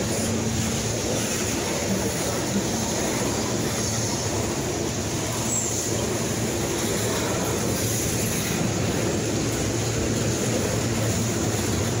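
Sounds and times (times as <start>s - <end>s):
steel wheels on rail: 0.0s - 12.0s.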